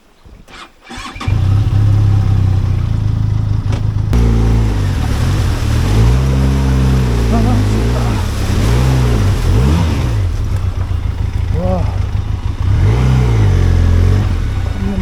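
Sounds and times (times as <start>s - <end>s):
engine sputtering: 0.9s - 15.0s
motorcycle engine revving: 0.9s - 15.0s.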